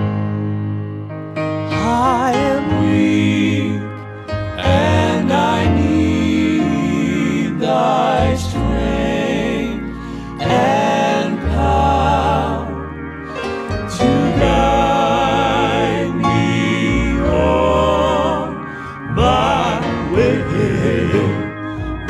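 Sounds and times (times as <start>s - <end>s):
slow gospel music: 0.0s - 22.0s.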